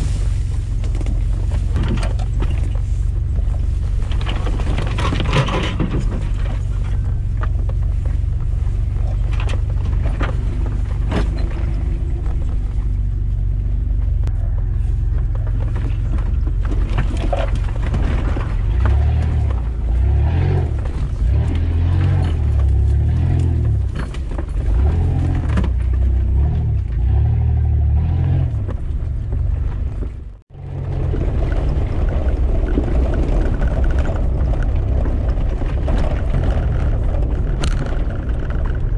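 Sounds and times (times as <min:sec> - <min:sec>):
body and suspension rattles: 0:00.0 - 0:38.9
suv engine rumbling under load: 0:00.0 - 0:38.9.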